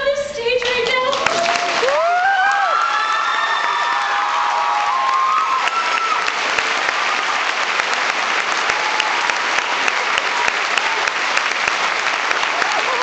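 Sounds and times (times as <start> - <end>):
audience applauding: 0.6 - 13.0
cheers and whoops: 1.1 - 11.4, 12.3 - 13.0.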